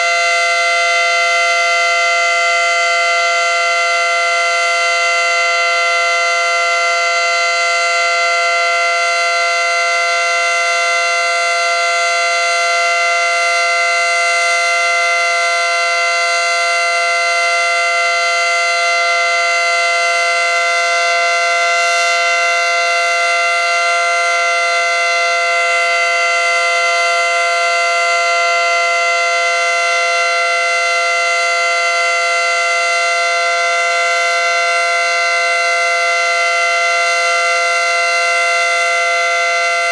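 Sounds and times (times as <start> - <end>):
warning siren steady dual tone: 0.0 - 39.9.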